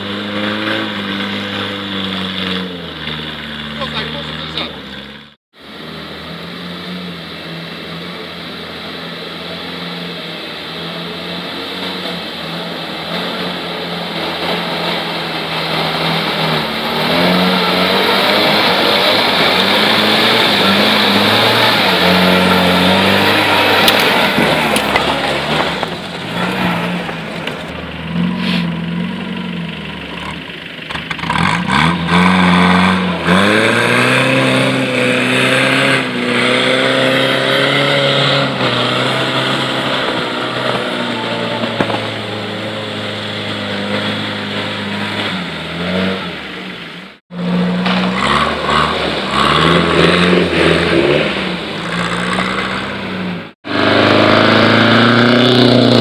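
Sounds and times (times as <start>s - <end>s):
off-road vehicle engine revving: 0.0s - 56.0s
water splashing around wheels: 0.0s - 56.0s.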